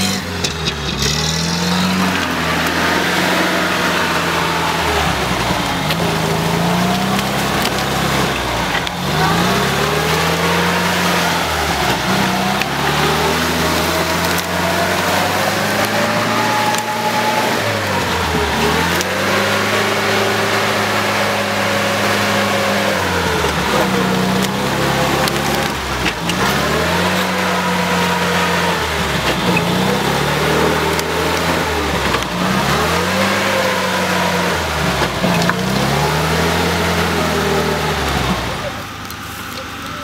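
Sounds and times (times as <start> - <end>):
branches cracking under tyres: 0.0 - 40.0
off-road vehicle engine revving: 0.0 - 40.0.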